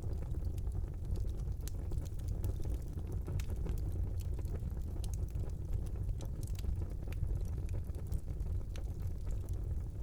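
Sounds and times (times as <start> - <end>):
logs crackling and popping: 0.0 - 10.0
low rumble of flames: 0.0 - 10.0.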